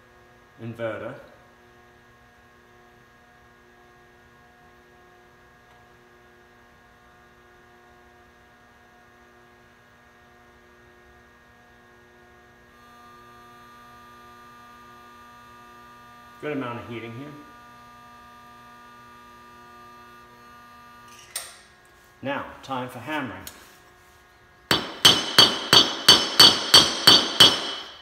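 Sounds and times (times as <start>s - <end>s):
induction heater buzzing: 0.0s - 28.0s.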